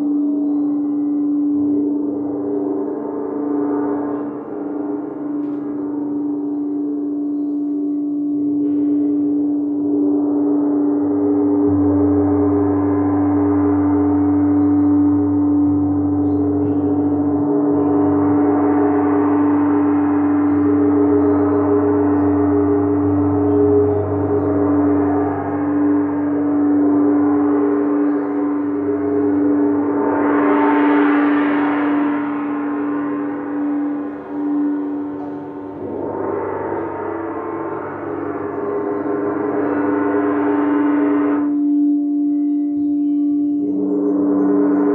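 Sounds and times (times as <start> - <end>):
crystal singing bowls ringing: 0.0 - 44.9
low hum: 0.0 - 44.9.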